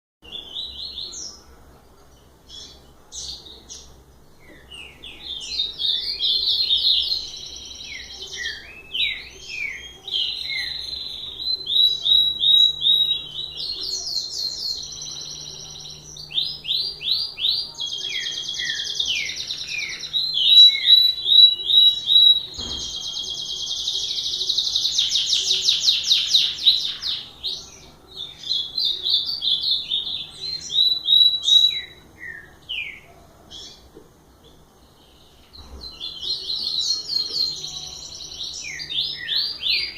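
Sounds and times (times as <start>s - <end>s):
songbird singing: 0.2s - 39.9s.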